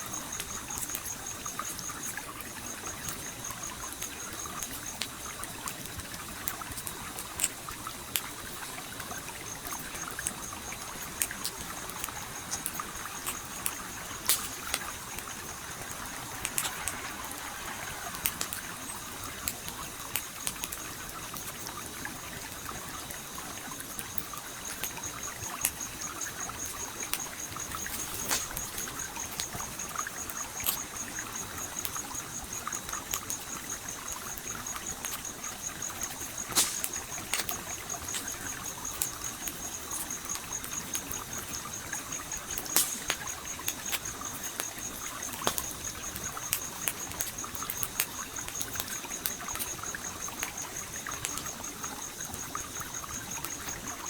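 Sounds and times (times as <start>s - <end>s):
campfire crackling and popping: 0.1s - 54.0s
stream flowing: 6.0s - 54.0s.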